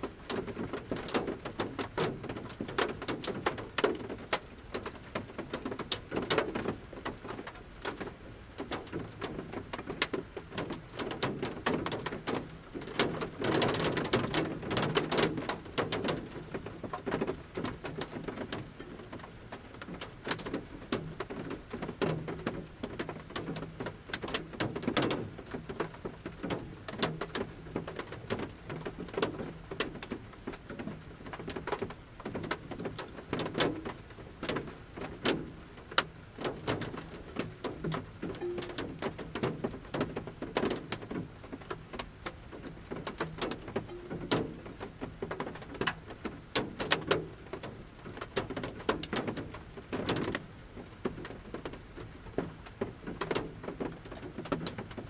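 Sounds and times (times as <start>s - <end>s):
raindrops tapping on van roof: 0.0s - 55.0s.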